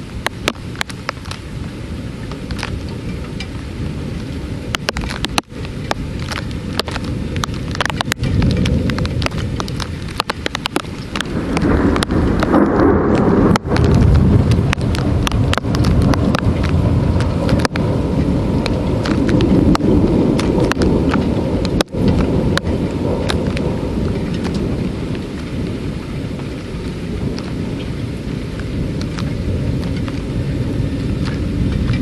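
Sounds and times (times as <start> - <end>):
rain: 0.0 - 32.0
raindrops ticking close by: 0.0 - 32.0
thunder rumbling: 0.0 - 32.0.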